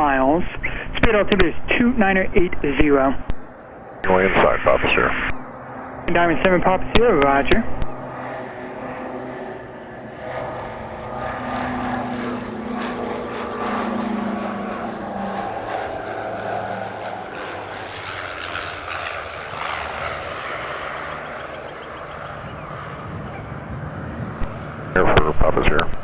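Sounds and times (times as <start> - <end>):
propeller plane engines: 0.0 - 26.0.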